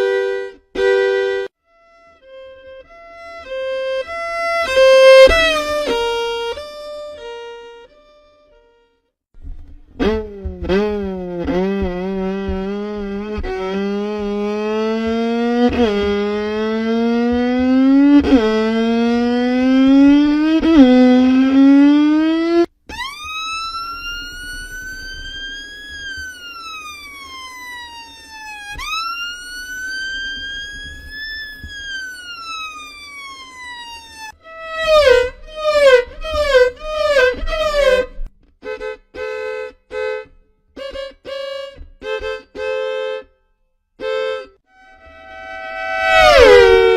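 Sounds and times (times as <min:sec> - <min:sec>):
violin sliding siren notes: 0:00.0 - 0:08.0, 0:10.0 - 0:38.3, 0:44.0 - 0:46.9.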